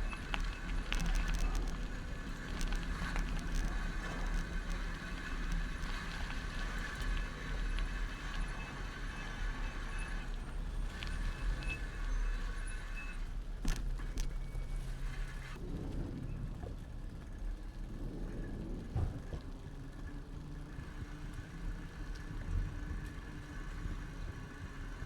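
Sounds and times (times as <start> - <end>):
low rumble of bicycle wheels: 0.0 - 25.0
street traffic: 0.0 - 25.0.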